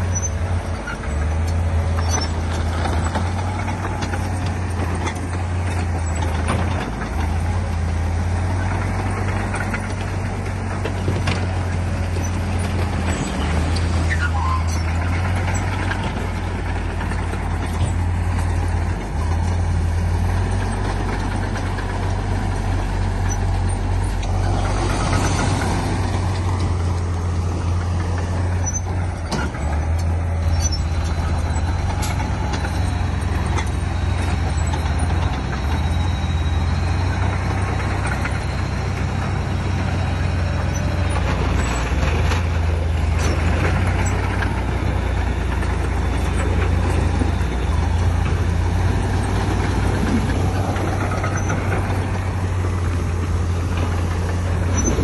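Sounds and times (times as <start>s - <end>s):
heavy machinery diesel engine: 0.0s - 55.0s
machinery clanking: 0.0s - 55.0s.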